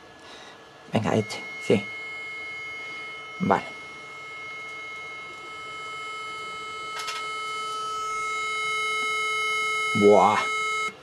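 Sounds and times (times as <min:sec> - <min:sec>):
steady electronic tone: 0:01.0 - 0:11.0.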